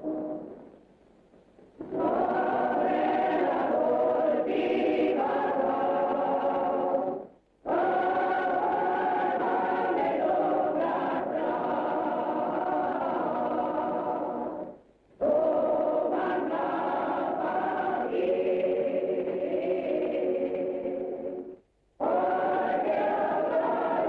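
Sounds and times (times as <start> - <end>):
choir singing held chords: 0.0 - 0.6, 1.8 - 24.0.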